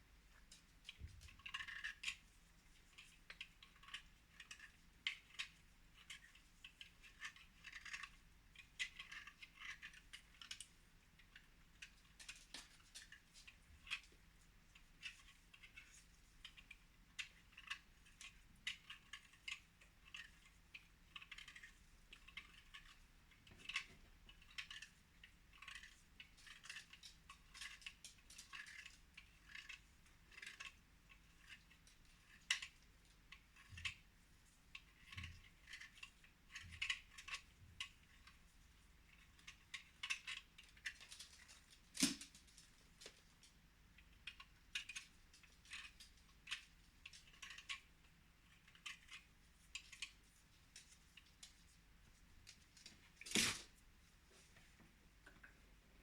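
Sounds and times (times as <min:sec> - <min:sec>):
faint light clicks and crackles: 0:00.0 - 0:56.0.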